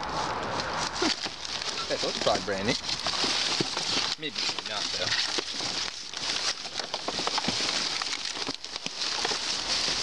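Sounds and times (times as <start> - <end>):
trash bags and cardboard rustling: 0.1 - 10.0.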